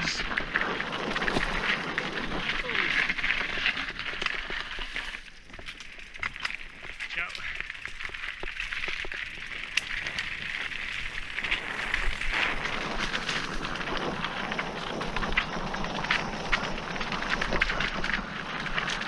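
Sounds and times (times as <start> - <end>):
bike tyres crunching on gravel: 0.0 - 19.0
stones and bike parts rattling: 0.0 - 19.0.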